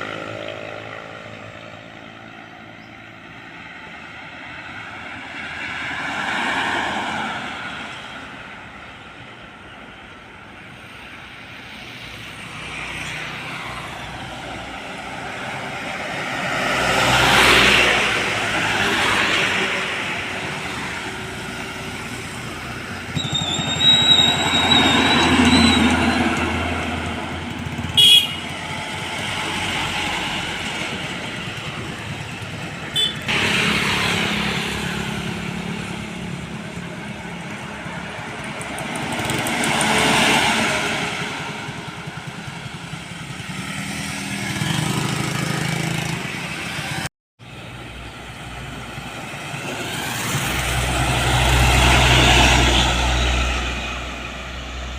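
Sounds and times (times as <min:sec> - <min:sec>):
motor vehicles passing: 0:00.0 - 0:08.6, 0:10.8 - 0:54.9.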